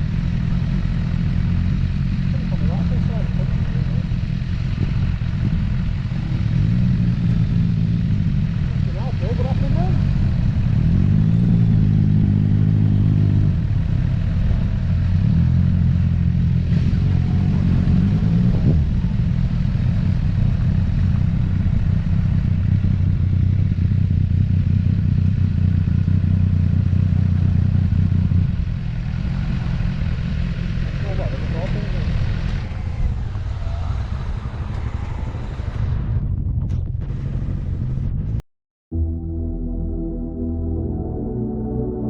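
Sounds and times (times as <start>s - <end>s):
motorcycle engine revving: 0.0s - 36.3s.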